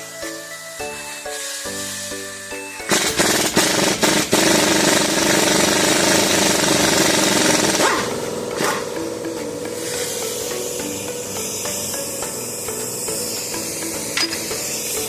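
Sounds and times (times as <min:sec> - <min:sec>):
background music: 0:00.0 - 0:15.0
air impact wrench hammering: 0:02.9 - 0:15.0.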